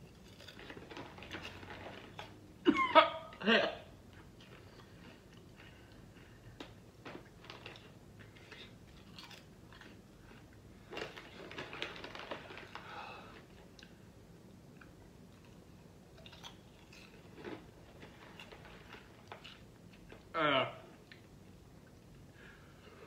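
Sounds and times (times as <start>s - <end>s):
popcorn crunching while chewed: 0.0s - 2.6s, 4.1s - 20.3s.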